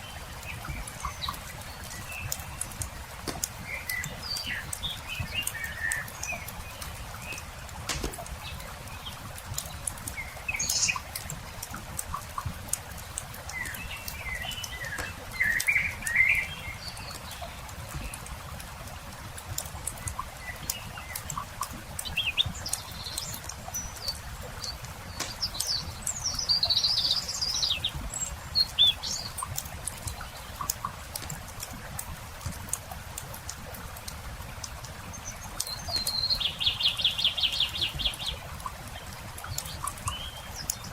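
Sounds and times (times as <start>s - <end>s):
campfire crackling: 0.0s - 40.9s
songbirds chirping: 0.0s - 40.9s.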